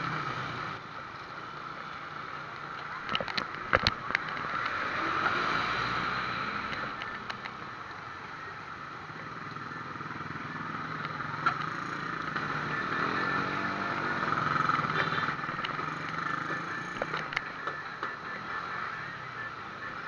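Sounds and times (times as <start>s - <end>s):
motor vehicle engine: 0.0s - 19.2s.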